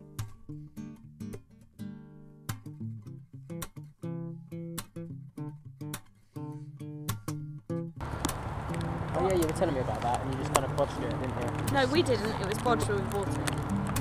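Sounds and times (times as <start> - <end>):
guitar plucked notes and chords: 0.0 - 14.0.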